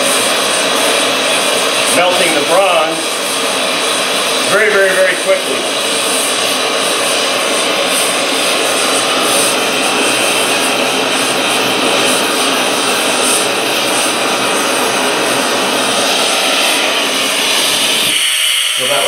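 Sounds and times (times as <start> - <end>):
blowtorch flame hissing: 0.0 - 19.0.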